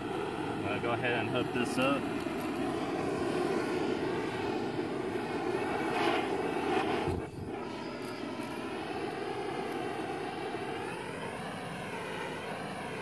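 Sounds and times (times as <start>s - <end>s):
propane torch burning: 0.0s - 13.0s.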